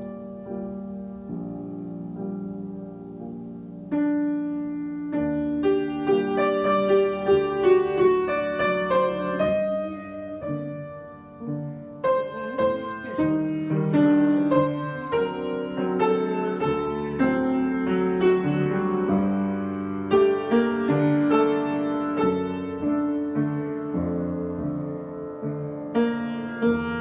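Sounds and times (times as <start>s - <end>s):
solo piano: 0.0s - 27.0s.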